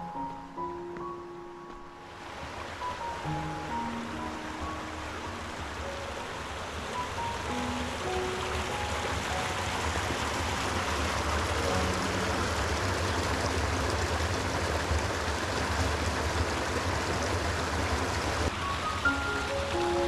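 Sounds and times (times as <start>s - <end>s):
creek water rushing over rocks: 2.0s - 20.0s.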